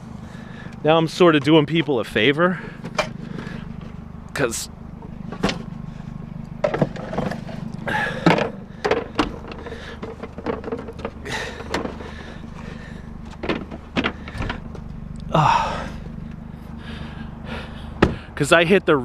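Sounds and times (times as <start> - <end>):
vehicle engine idling: 0.0 - 19.0
junk knocking and clunking: 0.4 - 18.4.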